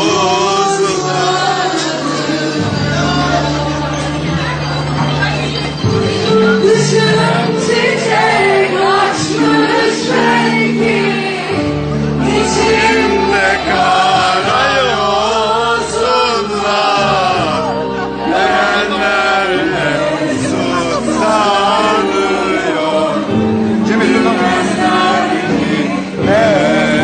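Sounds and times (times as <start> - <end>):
instrumental accompaniment: 0.0 - 27.0.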